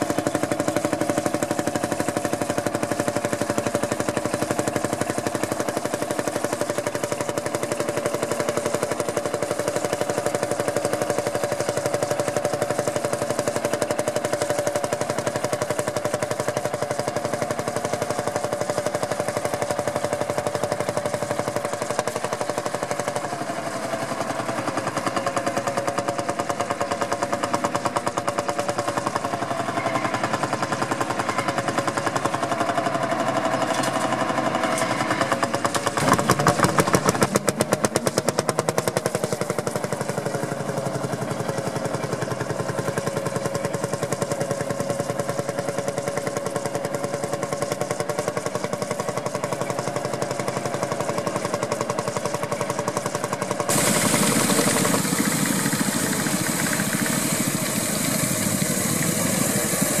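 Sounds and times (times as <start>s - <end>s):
tractor engines running under load: 0.0s - 60.0s.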